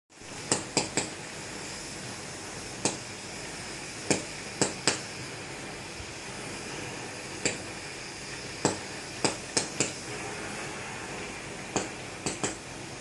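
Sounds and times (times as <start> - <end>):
steady background hiss: 0.2 - 13.0.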